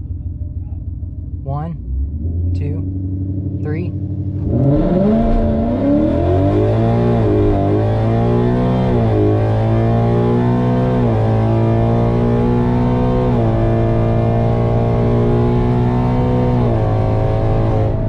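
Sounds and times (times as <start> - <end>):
car engine accelerating hard: 1.8 - 18.0.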